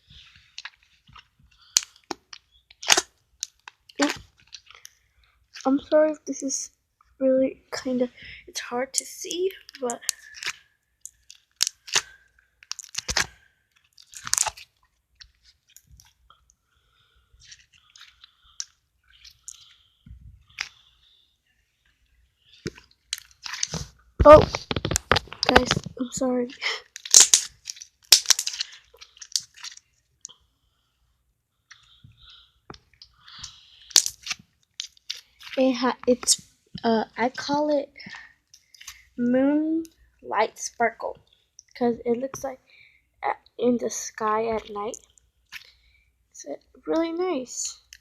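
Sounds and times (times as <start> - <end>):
slime squishing: 0.1 - 6.6, 7.7 - 30.4, 31.6 - 42.6.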